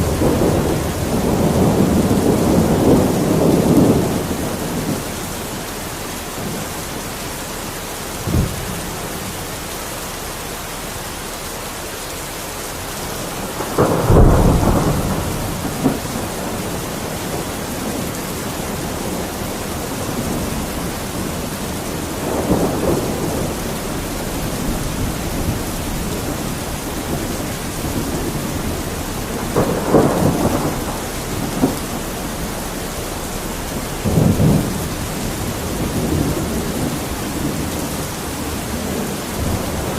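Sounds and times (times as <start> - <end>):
thunder rumbling: 0.0 - 11.2, 12.3 - 39.9
heavy rain: 0.0 - 39.9.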